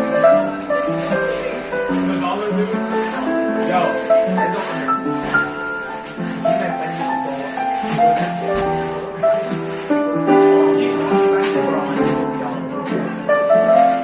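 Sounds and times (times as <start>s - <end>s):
jazz band playing: 0.0s - 14.0s
keyboard chords: 0.0s - 14.0s
patrons chatting: 0.0s - 14.0s.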